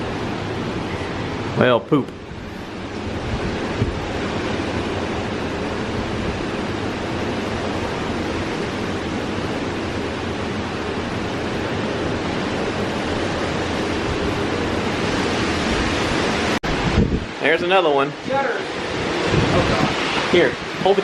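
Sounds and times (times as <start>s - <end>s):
hurricane wind blowing hard: 0.0s - 21.0s.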